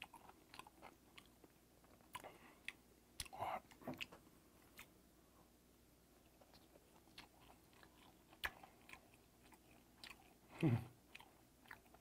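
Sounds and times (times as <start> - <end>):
wet chewing clicks and smacks: 0.0 - 4.9, 6.3 - 10.5, 11.1 - 12.0.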